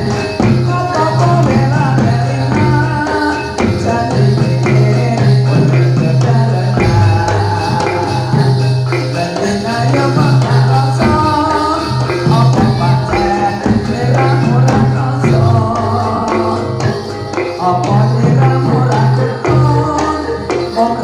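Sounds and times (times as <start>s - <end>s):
jingling percussion strikes: 0.0s - 21.0s
melodic ensemble music: 0.0s - 21.0s
person singing: 0.0s - 21.0s.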